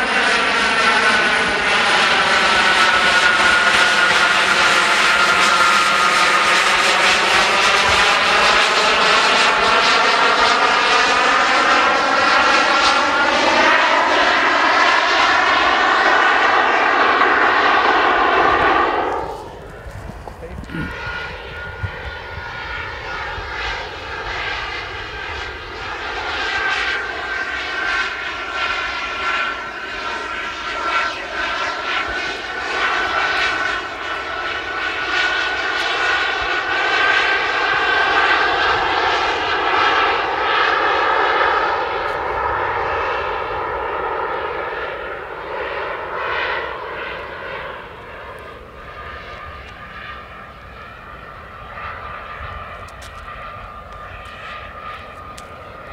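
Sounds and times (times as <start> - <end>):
model jet turbines whining: 0.0 - 55.9.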